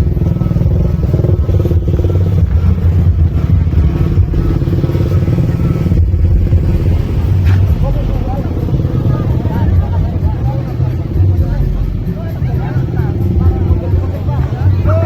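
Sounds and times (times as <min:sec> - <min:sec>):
vehicle engine running loudly: 0:00.0 - 0:15.0.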